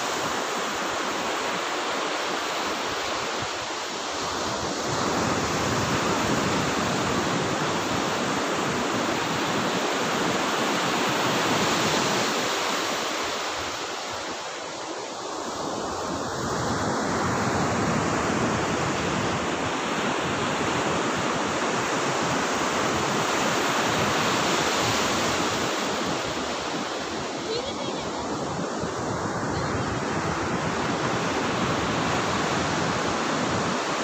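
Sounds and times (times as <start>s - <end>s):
waves washing up a beach: 0.0s - 34.0s.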